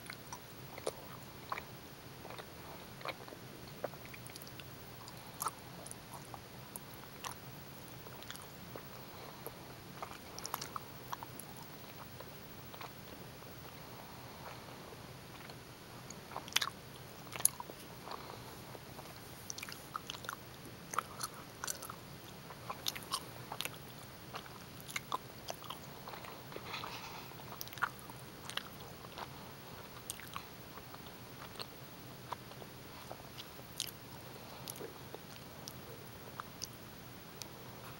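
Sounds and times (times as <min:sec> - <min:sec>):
chewing gummy candy: 0:00.0 - 0:14.6, 0:15.3 - 0:36.8
faint steady hiss: 0:00.0 - 0:37.9.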